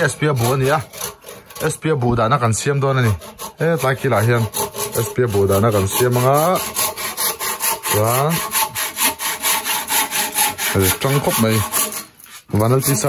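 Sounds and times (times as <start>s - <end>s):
hand saw cutting wood: 0.0s - 13.0s.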